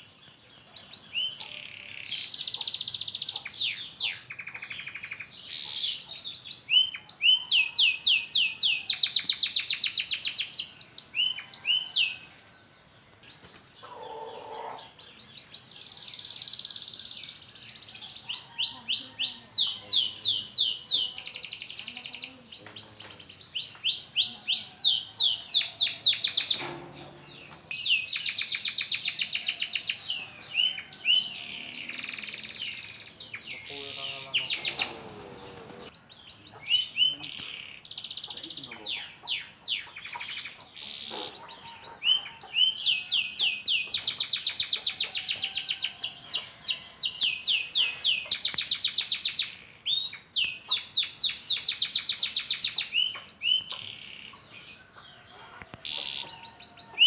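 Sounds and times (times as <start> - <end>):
canary singing trills: 0.6 - 57.0.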